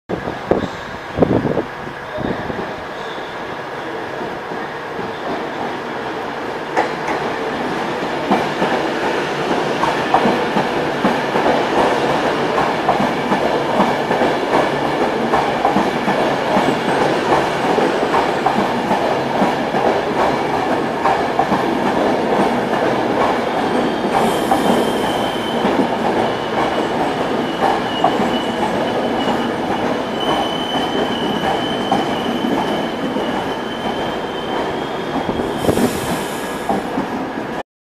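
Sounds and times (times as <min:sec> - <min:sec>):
train wheels rumbling on rails: 0:00.1 - 0:37.6.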